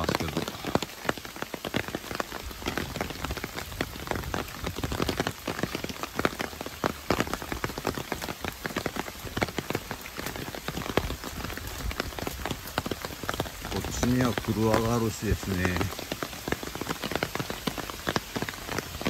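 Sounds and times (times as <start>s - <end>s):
raindrops striking close: 0.0s - 19.0s.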